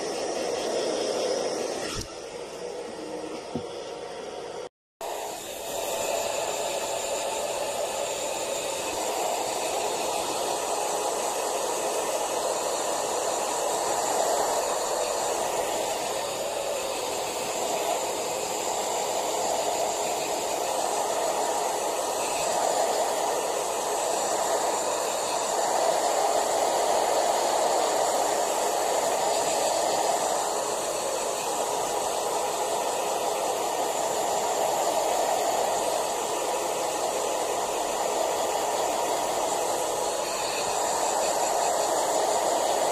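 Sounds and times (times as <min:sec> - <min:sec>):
pet blower rush of air: 0:00.0 - 0:42.9.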